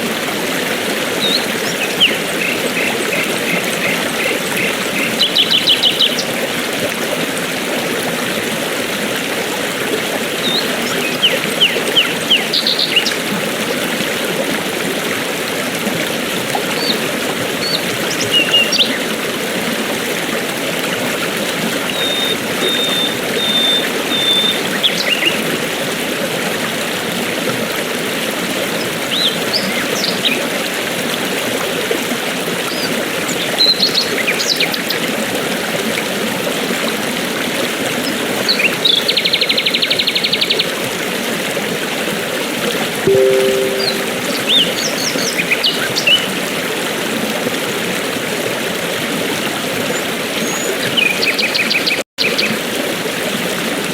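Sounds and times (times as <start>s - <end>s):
stream running over rocks: 0.0s - 44.1s.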